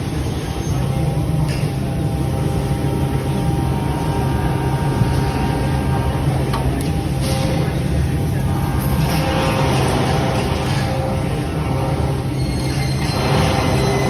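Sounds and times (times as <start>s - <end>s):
machine drone with low hum: 0.0s - 14.0s.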